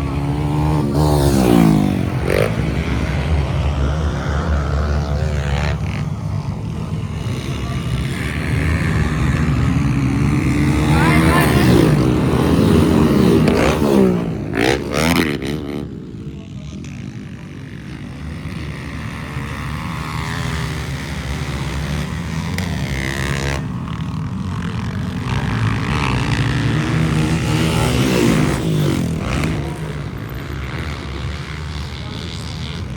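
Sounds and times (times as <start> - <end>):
motocross bikes revving past: 0.0 - 32.9.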